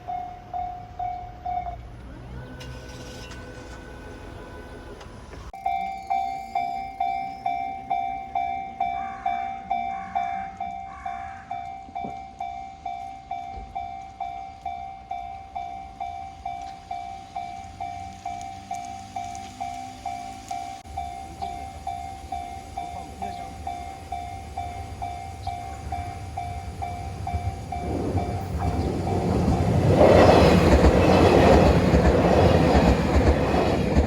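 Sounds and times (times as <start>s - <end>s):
level crossing warning bell ringing: 0.0s - 4.7s, 5.5s - 34.0s.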